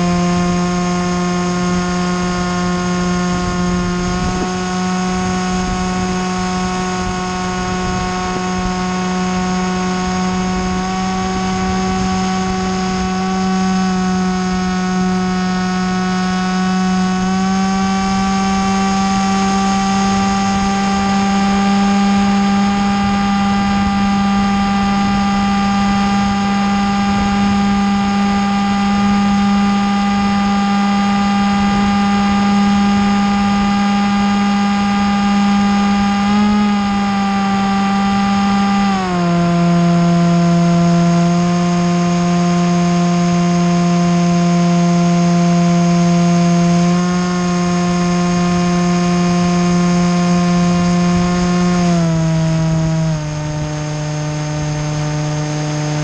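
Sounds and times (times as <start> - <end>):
low wind rumble: 0.0 - 56.0
small aircraft propeller drone: 0.0 - 56.0.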